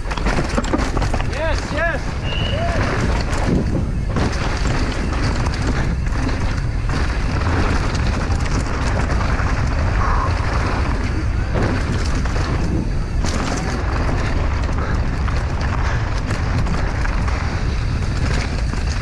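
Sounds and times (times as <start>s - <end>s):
bike chain and suspension rattling: 0.0s - 19.0s
tyres clattering on loose trail: 0.0s - 19.0s
wind buffeting microphone: 0.0s - 19.0s.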